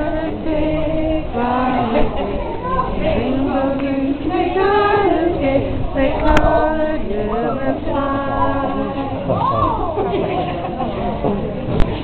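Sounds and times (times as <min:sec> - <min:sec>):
children and women singing: 0:00.0 - 0:10.5.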